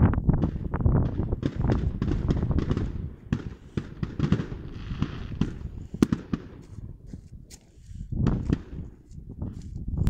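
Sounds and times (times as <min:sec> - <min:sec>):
fireworks bangs and crackles: 0:00.0 - 0:06.9, 0:08.2 - 0:09.6.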